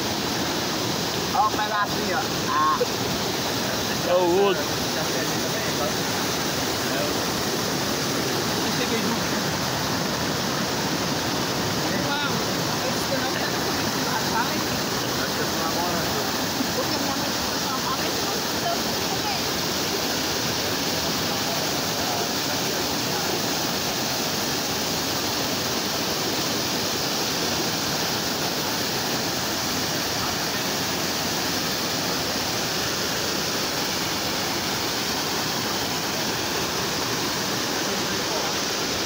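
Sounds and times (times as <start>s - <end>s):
waterfall splashing into pool: 0.0s - 39.0s.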